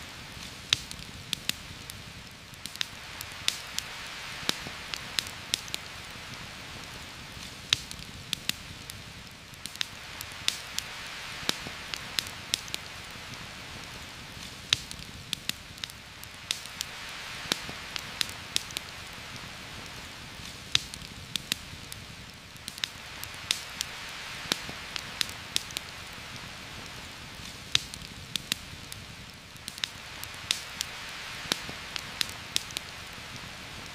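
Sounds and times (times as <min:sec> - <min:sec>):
campfire crackling and popping: 0:00.0 - 0:33.9
heavy rain on leaves: 0:00.0 - 0:33.9.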